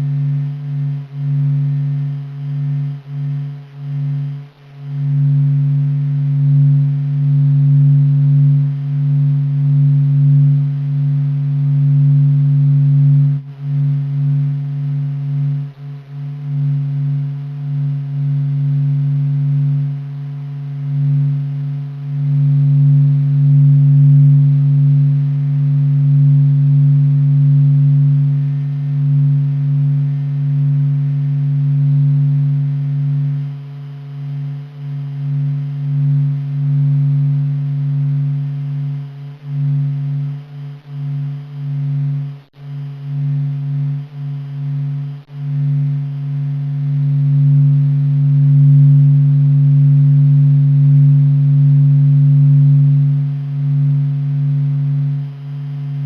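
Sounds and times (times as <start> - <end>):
deep humming drone: 0.0 - 56.0
faint higher tone: 0.0 - 56.0.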